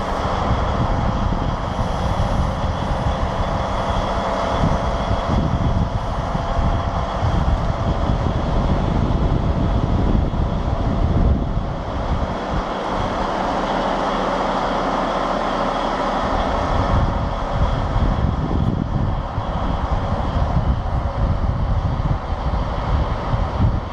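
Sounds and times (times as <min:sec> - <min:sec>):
diesel engine idling: 0:00.0 - 0:23.9
wind buffeting microphone: 0:00.0 - 0:23.9.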